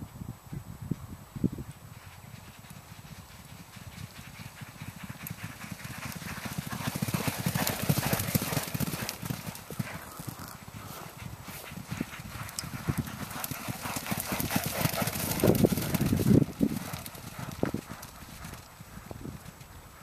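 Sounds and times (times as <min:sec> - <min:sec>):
horses galloping hoofbeats: 0:00.0 - 0:20.0.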